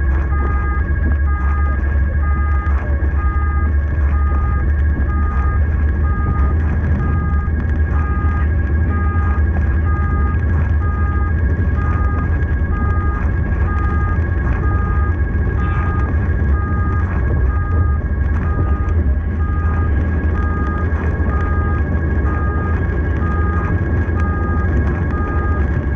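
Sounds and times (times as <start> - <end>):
engine and road rumble: 0.0 - 25.9
siren beeping tone: 0.0 - 25.9
siren high tone: 0.0 - 25.9.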